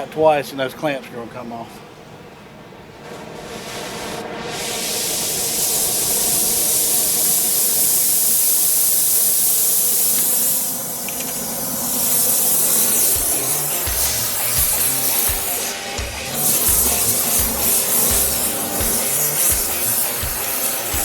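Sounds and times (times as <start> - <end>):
gas torch hissing: 3.0 - 21.0.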